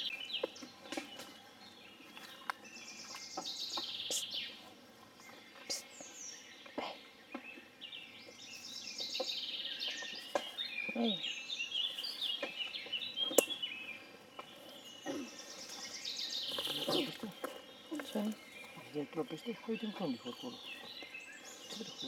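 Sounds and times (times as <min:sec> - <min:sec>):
songbird warbling: 0:00.0 - 0:22.0.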